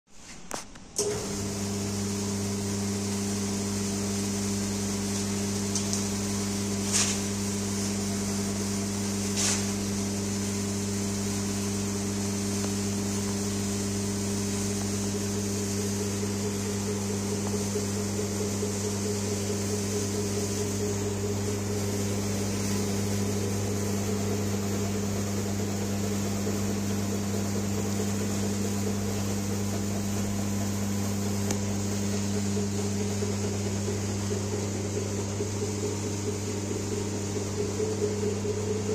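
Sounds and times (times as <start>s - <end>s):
hydraulic pump humming: 0.8s - 38.9s.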